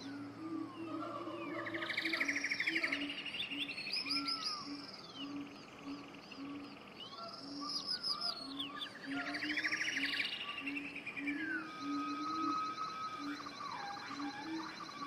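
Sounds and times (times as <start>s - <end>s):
birds singing: 0.0s - 15.0s
low repeated bird call: 0.0s - 15.0s.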